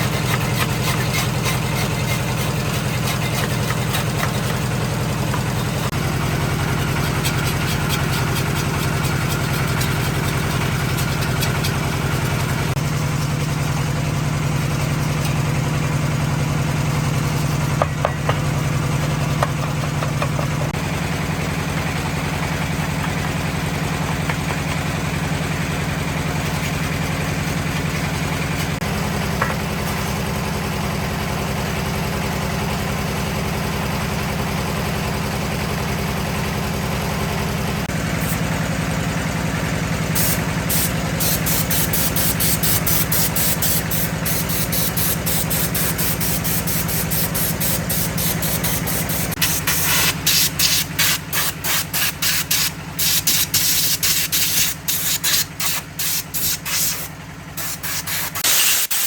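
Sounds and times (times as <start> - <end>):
concrete mixer engine idling: 0.0 - 59.0.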